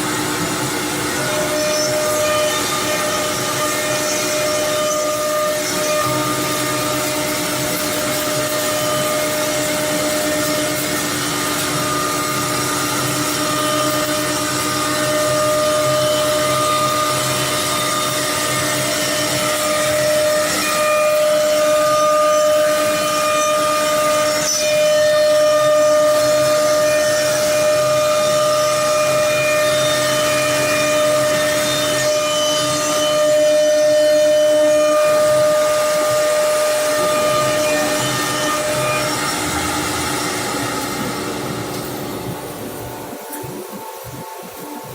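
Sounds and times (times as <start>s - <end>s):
machine noise: 0.0s - 44.9s
router spindle whining: 0.0s - 44.9s.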